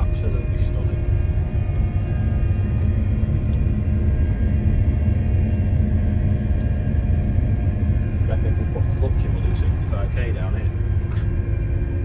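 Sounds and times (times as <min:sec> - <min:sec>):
combine harvester rumbling: 0:00.0 - 0:12.0
faint steady whine: 0:00.0 - 0:12.0.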